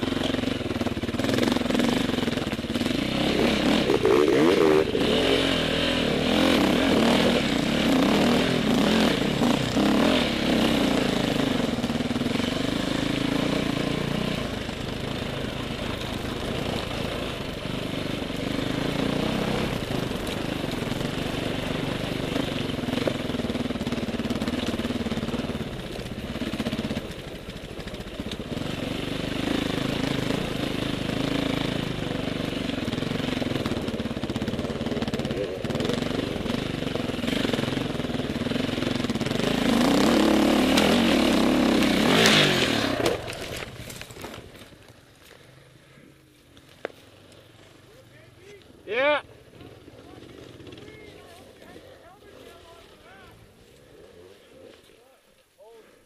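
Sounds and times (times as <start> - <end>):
dirt bike engine revving: 0.0 - 44.9, 47.5 - 55.2.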